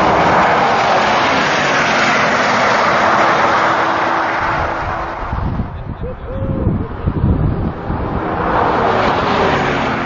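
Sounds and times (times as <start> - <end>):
cars accelerating: 0.0 - 10.0
engine and tyre noise rushing: 0.0 - 10.0.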